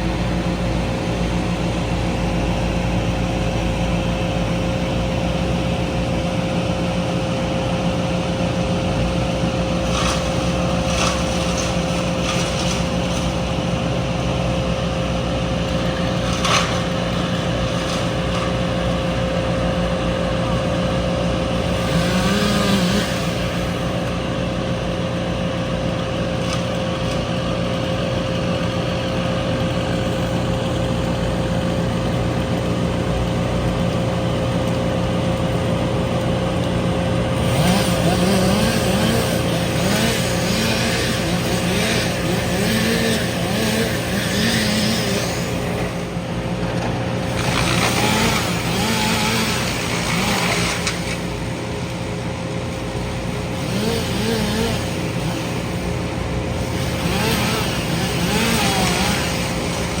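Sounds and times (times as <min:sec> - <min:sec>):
large engine humming: 0:00.0 - 1:00.0.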